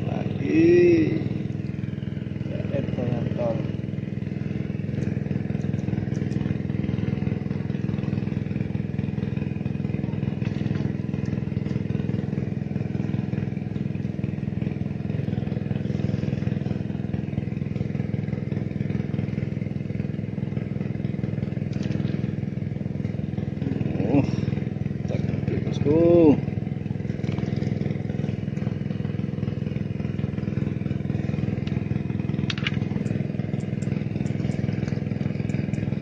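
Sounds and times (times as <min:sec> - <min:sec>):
small engine humming steadily: 0:00.0 - 0:36.0.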